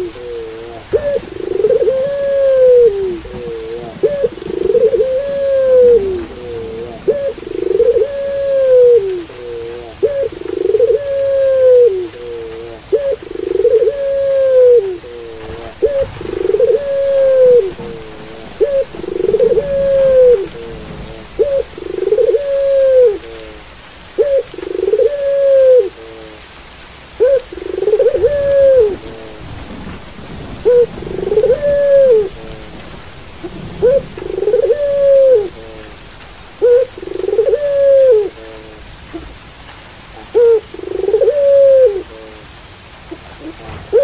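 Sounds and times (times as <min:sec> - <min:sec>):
dove cooing: 0:00.0 - 0:44.0
steady rain: 0:00.0 - 0:44.0.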